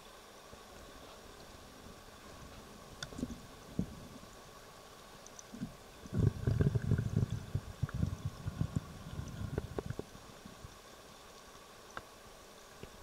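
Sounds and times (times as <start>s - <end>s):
faint steady hiss: 0.0s - 13.0s
underwater gurgling: 1.4s - 12.0s.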